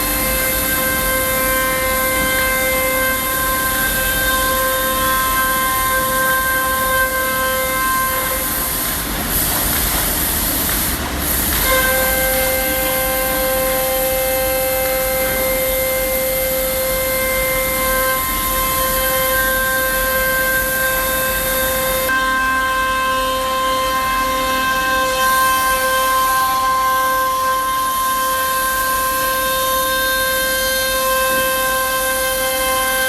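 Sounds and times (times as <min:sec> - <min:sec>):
router cutting plywood: 0:00.0 - 0:33.0
router spindle high whine: 0:00.0 - 0:33.0.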